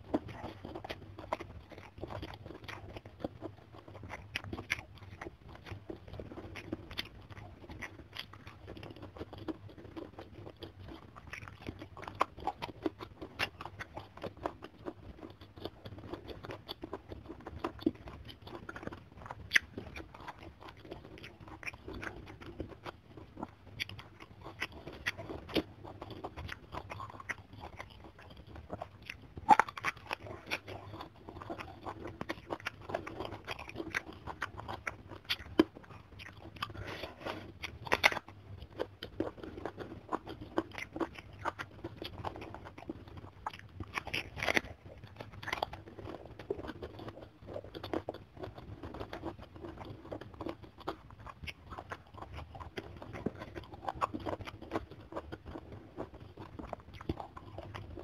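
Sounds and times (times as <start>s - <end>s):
person chewing crisp food: 0.0s - 58.0s.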